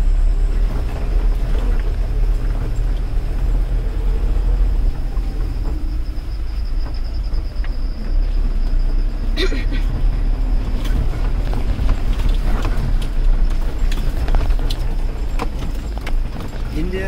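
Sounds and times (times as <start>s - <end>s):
car driving on dirt track: 0.0s - 17.0s
knocks and rattles: 0.5s - 17.0s.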